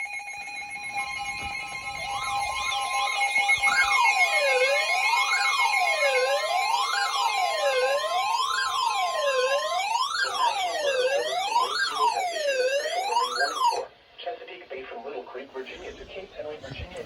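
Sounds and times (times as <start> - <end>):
electronic wailing siren: 0.0 - 13.9
steady alarm tones: 0.0 - 13.9.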